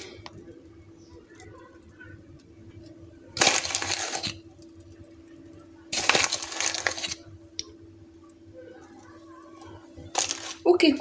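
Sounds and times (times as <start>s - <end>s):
sprinkles crackling rustle: 0.0s - 7.3s, 8.8s - 11.0s
faint steady hum: 0.0s - 11.0s.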